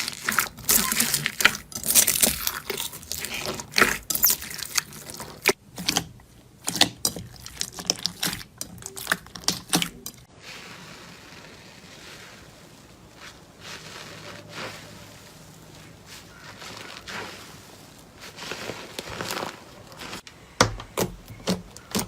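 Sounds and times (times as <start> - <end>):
crunchy material crackling: 0.0 - 20.3.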